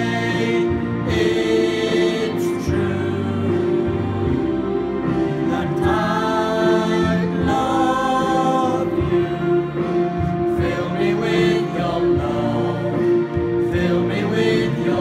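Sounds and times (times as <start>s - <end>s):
vocal group singing worship song: 0.0s - 15.0s.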